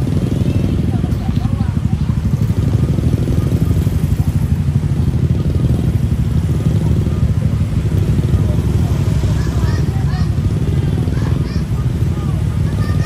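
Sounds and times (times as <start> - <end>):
large engine rumbling: 0.0 - 13.0.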